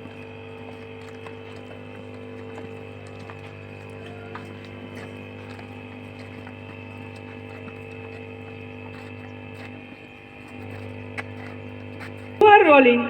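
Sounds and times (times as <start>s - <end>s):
electrical hum with steady tones: 0.0s - 13.0s.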